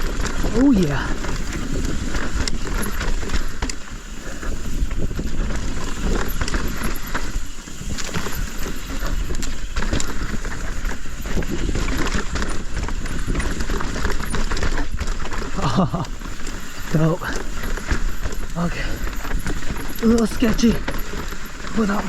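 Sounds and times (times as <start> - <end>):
bike rattles and knocks: 0.0 - 22.0
bike tyres on dirt and rocks: 0.0 - 22.0
wind rumble on microphone: 0.0 - 22.0.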